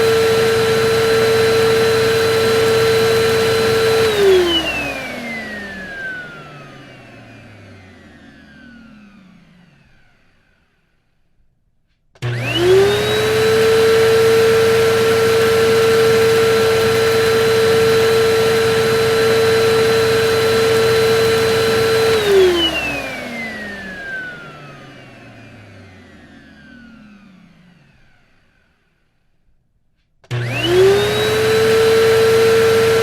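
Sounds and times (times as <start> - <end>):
vacuum cleaner motor whine: 0.0 - 11.4, 12.2 - 33.0.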